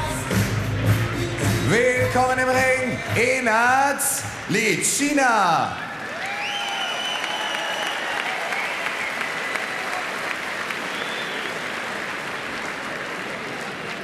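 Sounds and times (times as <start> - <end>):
crowd applauding: 2.2 - 14.0.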